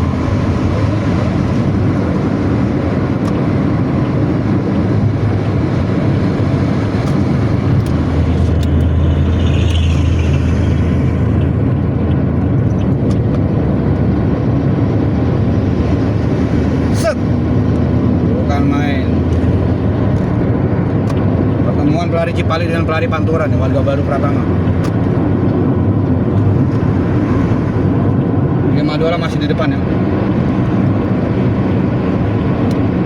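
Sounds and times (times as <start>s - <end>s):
bus engine rumbling: 0.0s - 33.0s
road noise: 0.0s - 33.0s.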